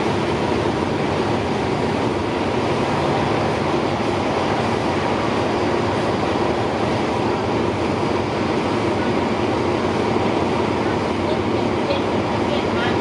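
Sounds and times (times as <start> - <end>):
diesel train engine hum: 0.0 - 13.0
mechanical train noise: 0.0 - 13.0.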